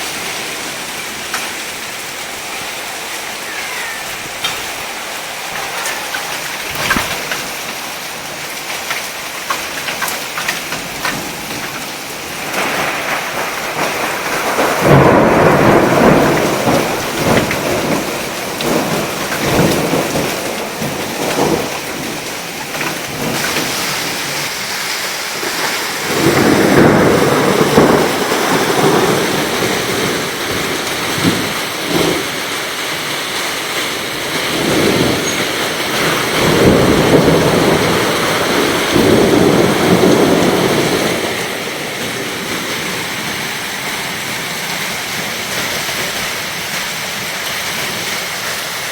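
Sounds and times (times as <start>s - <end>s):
thunder rumbling: 0.0s - 46.4s
heavy rain pouring: 0.0s - 48.9s.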